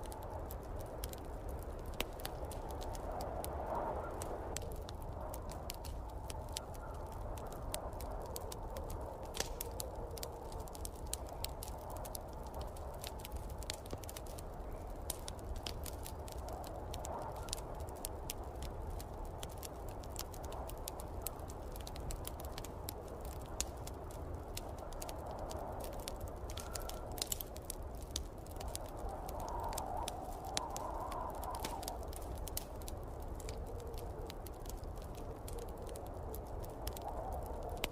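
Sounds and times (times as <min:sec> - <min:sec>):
hissing wind: 0:00.0 - 0:37.9
wood fire crackling and popping: 0:00.0 - 0:37.9.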